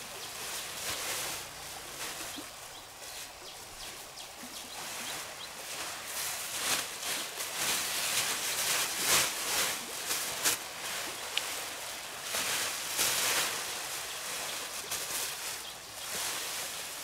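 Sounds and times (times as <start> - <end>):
rustling and scraping: 0.0 - 17.0
steady hiss: 0.0 - 17.0.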